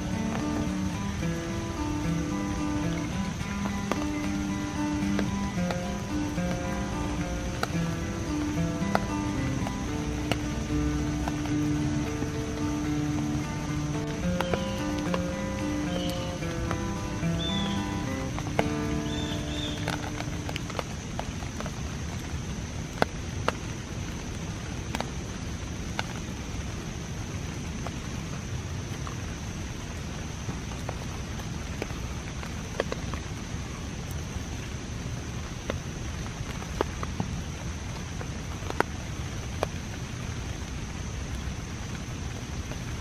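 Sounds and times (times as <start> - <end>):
steady light rain: 0.0 - 43.0.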